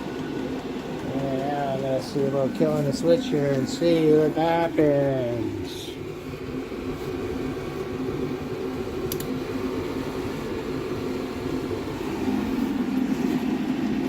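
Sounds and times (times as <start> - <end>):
air heater humming: 0.0 - 14.0.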